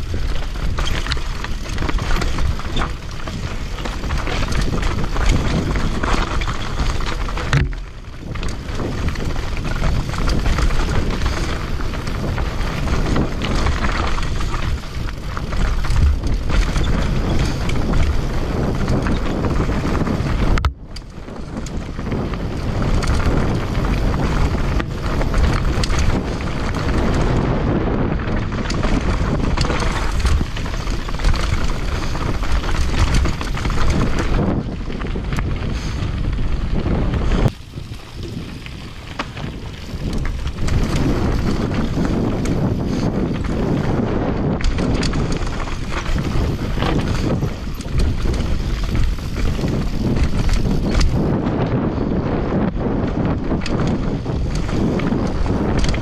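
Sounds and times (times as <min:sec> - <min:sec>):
bike clattering and rattling: 0:00.0 - 0:56.0
bike tyres rumbling over dirt: 0:00.0 - 0:56.0
wind buffeting microphone: 0:00.0 - 0:56.0.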